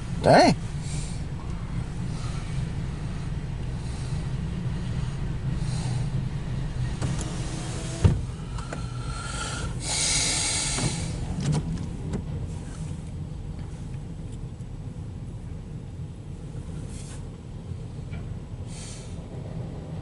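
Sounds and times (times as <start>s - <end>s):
freight train rumbling past: 0.0s - 14.2s, 14.8s - 20.0s.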